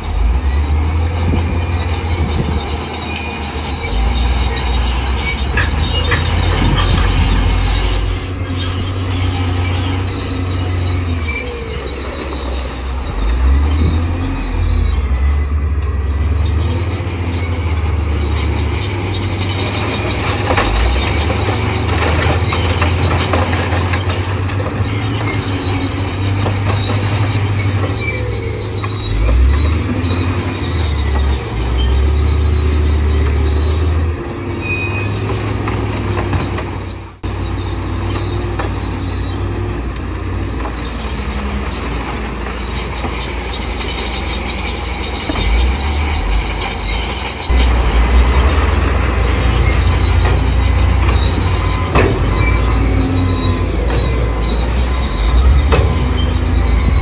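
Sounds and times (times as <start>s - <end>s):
diesel machinery engine rumble: 0.0s - 57.0s
high metallic squeals: 0.0s - 57.0s.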